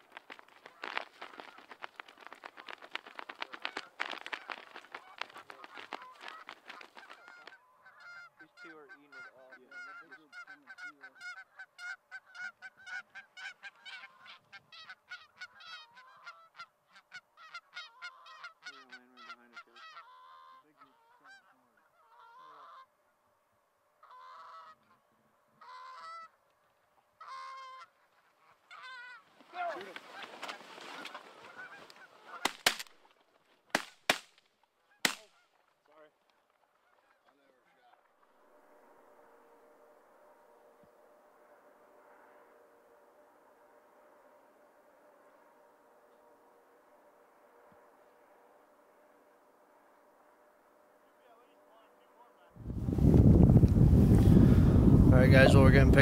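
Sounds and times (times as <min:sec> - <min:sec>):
geese honking: 0:00.0 - 0:23.2, 0:24.0 - 0:33.2, 0:36.4 - 0:52.6.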